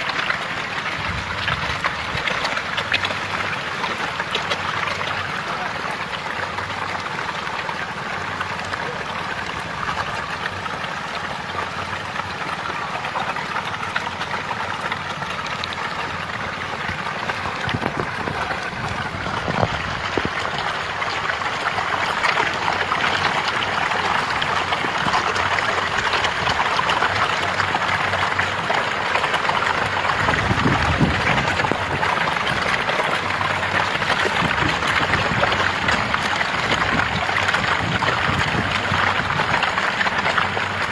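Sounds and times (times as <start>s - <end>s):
fish thrashing and splashing: 0.0s - 40.9s.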